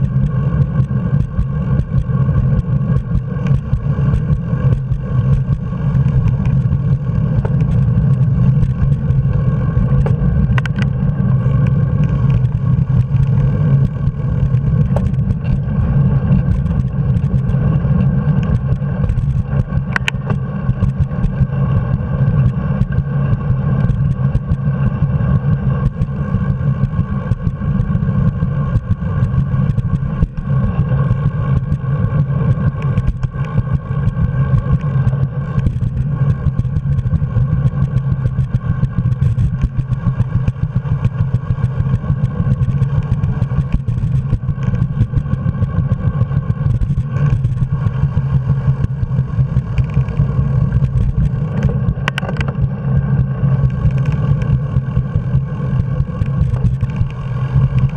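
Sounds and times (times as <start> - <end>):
road rumble: 0.0 - 57.9.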